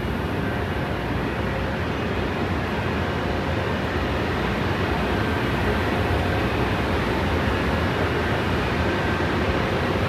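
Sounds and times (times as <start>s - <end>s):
station hall ventilation drone: 0.0s - 10.0s.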